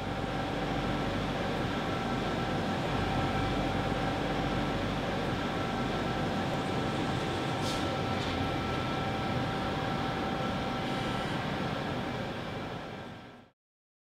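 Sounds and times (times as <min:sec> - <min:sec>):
factory machinery drone: 0:00.0 - 0:13.5.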